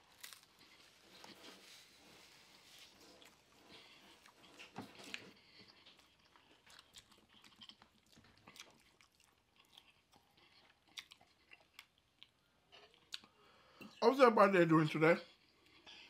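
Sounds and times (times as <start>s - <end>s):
chewing and crunching fried fish: 0.0s - 13.8s, 15.2s - 16.0s.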